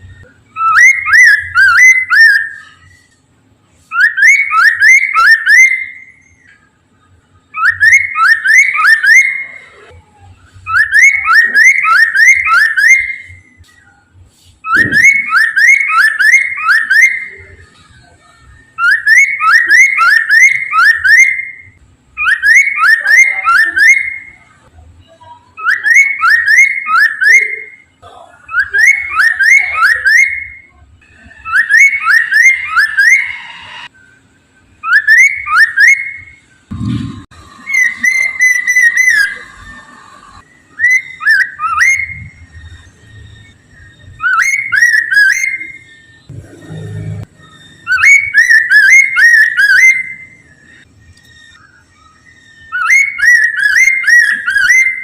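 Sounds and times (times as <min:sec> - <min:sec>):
bird singing whistled phrases: 0:00.0 - 0:03.0, 0:03.9 - 0:06.6, 0:07.5 - 0:09.8, 0:10.6 - 0:14.0, 0:14.6 - 0:24.6, 0:25.5 - 0:27.9, 0:28.5 - 0:34.2, 0:34.8 - 0:36.4, 0:37.5 - 0:46.3, 0:47.4 - 0:55.0.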